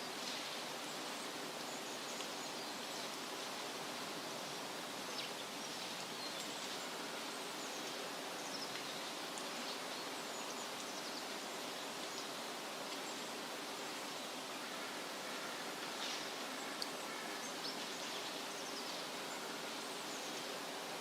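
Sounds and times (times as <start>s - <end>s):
wind rustling leaves: 0.0s - 21.0s.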